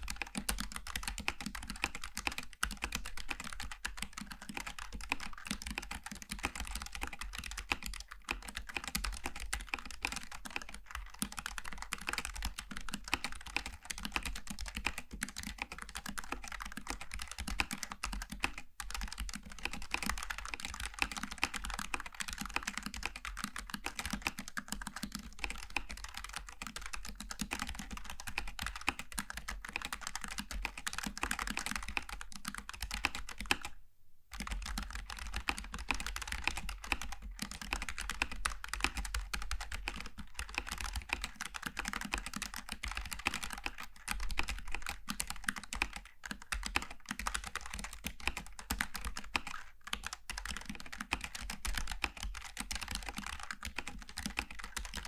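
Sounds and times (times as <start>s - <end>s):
fast typing on mechanical keyboard: 0.0s - 55.0s.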